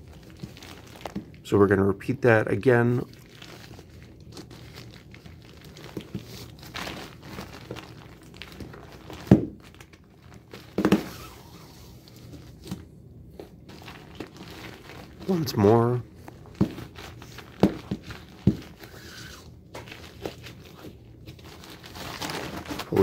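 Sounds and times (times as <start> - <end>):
plastic tarp crinkling: 0.0 - 12.6, 13.6 - 23.0
handling noises: 3.4 - 23.0.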